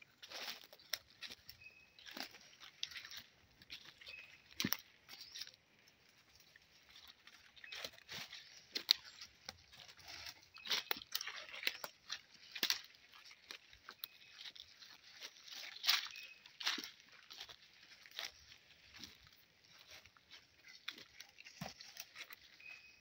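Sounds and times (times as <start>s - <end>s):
footsteps crunching dry leaves: 0.0s - 23.0s.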